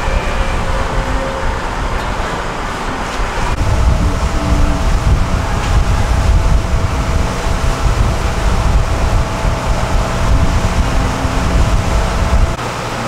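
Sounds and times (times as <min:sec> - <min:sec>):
wind buffeting microphone: 0:00.0 - 0:12.7
boat motor running: 0:00.0 - 0:13.0.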